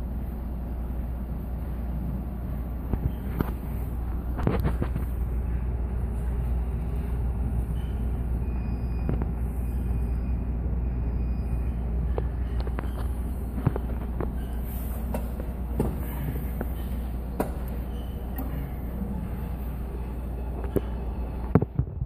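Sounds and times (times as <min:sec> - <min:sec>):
low room noise rumble: 0:00.0 - 0:22.0.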